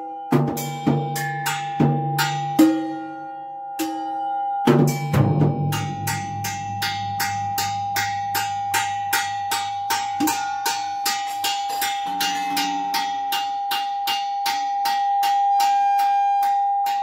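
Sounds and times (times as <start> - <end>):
percussion hits: 0.0 - 17.0
steady feedback tone: 0.0 - 17.0.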